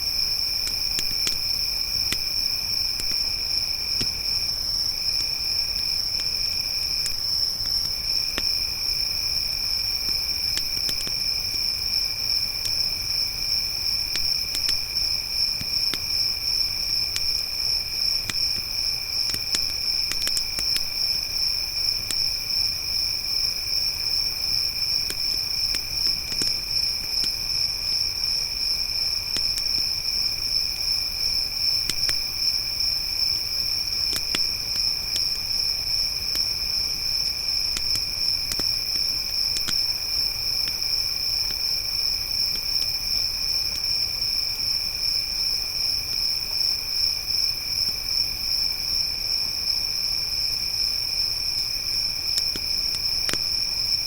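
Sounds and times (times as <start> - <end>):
campfire crackling: 0.0 - 44.0, 51.5 - 54.0
crickets trilling: 0.0 - 54.0
lower-pitched cricket: 0.0 - 54.0.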